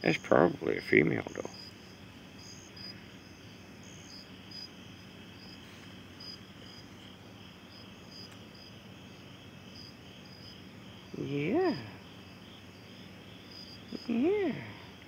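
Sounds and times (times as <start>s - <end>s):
crickets chirping: 0.0s - 15.0s
faint steady hum: 0.0s - 15.0s.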